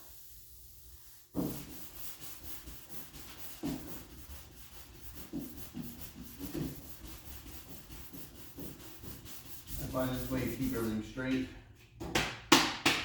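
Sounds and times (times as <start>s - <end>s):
hand sanding strokes: 0.0s - 11.5s.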